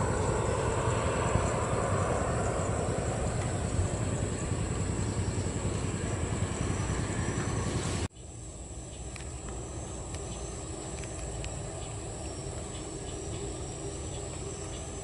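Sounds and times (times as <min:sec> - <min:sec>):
distant jet engines rumbling: 0:00.0 - 0:15.0.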